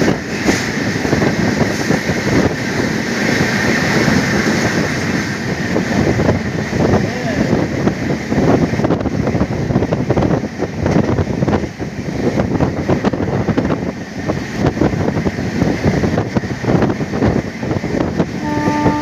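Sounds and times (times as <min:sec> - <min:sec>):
train wheels clattering on rails: 0:00.0 - 0:19.0
wind buffeting on microphone: 0:00.0 - 0:19.0.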